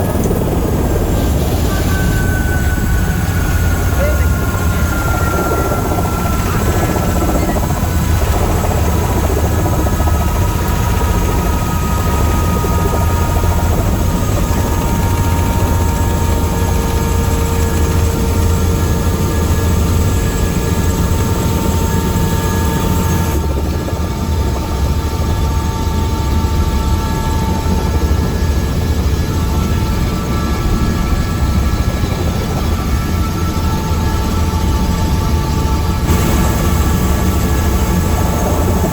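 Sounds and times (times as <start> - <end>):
helicopter rotor and engine drone: 0.0 - 38.9
turbine whine: 0.0 - 38.9.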